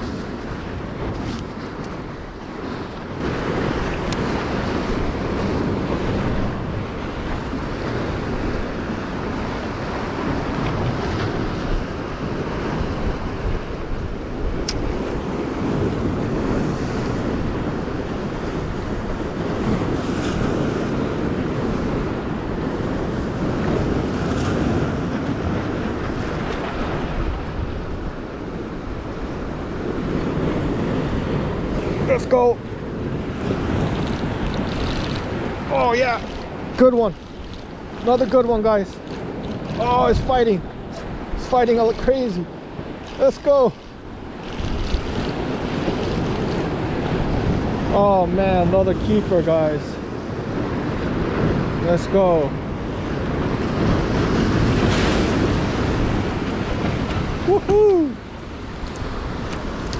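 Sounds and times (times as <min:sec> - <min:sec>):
waves breaking over rocks: 0:00.0 - 0:59.9
wind buffeting microphone: 0:00.0 - 0:59.9.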